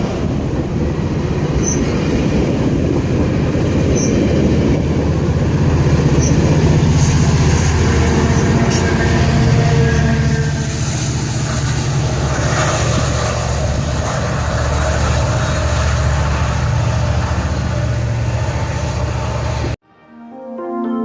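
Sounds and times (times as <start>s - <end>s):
diesel locomotive rumbling: 0.0s - 19.8s.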